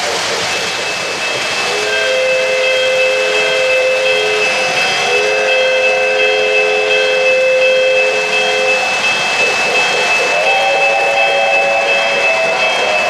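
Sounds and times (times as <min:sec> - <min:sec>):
model train wheels rumbling: 0:00.0 - 0:13.0
steady high whine: 0:00.0 - 0:13.0
two-note steam whistle: 0:00.6 - 0:13.0.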